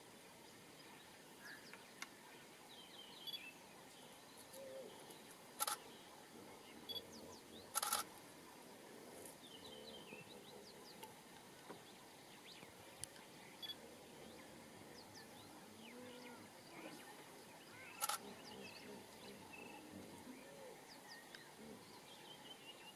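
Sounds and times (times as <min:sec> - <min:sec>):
small birds chirping: 0:00.4 - 0:22.9.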